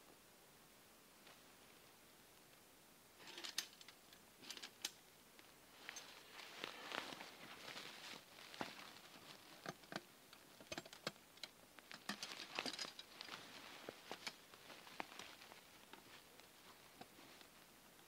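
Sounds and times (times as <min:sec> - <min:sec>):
dry grass and twigs rustling: 0:03.2 - 0:18.0.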